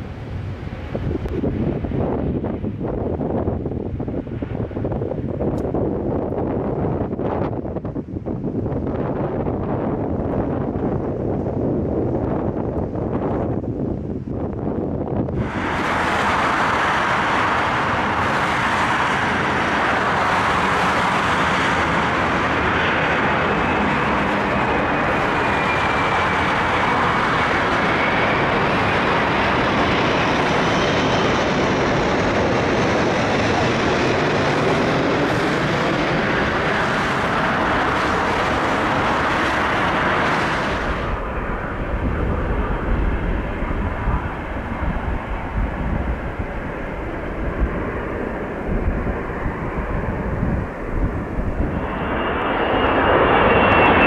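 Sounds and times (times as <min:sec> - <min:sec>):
faint engine whine: 0:00.0 - 0:54.0
jet engines roaring: 0:00.0 - 0:54.0
wind rumble on microphone: 0:00.0 - 0:54.0.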